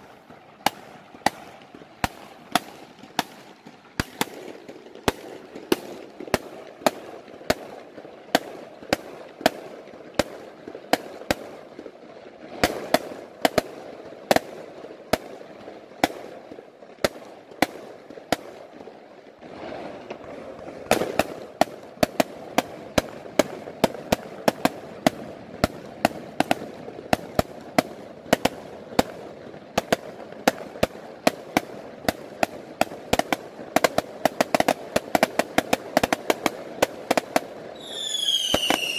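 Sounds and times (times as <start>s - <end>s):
background noise: 0.0s - 38.9s
fireworks bangs: 0.0s - 38.9s.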